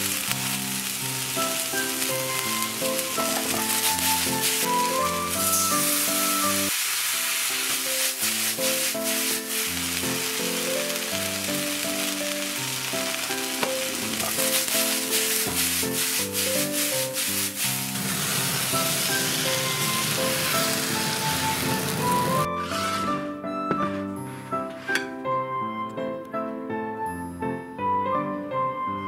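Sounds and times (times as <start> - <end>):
background music: 0.0 - 6.7, 7.3 - 29.0
vegetables sizzling in a wok: 0.0 - 23.3.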